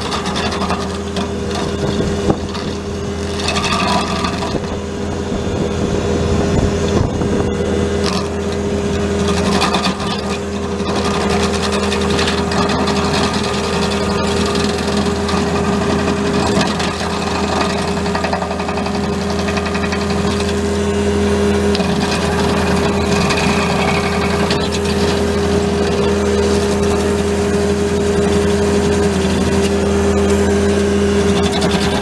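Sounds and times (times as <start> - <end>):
diesel engine droning: 0.0 - 32.0.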